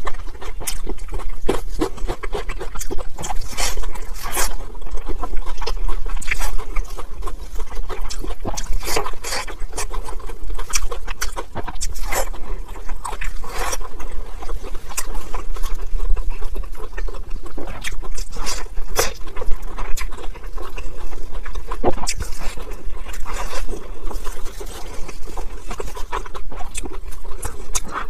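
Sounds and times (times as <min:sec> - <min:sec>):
chewing and wet mouth sounds: 0:00.0 - 0:28.0.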